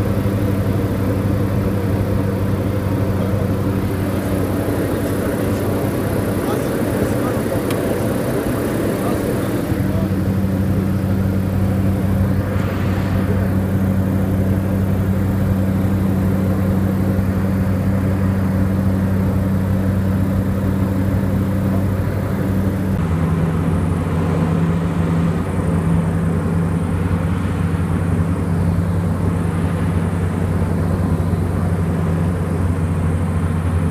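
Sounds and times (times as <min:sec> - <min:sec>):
light aircraft engine droning: 0:00.0 - 0:33.9.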